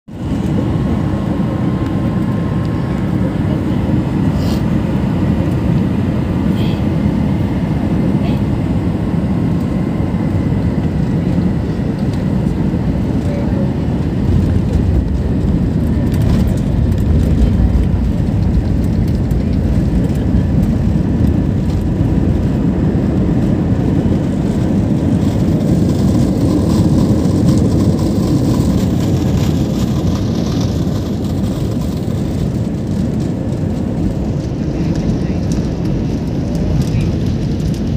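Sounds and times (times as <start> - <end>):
airliner engines and wheels rumbling: 0.1 - 37.9.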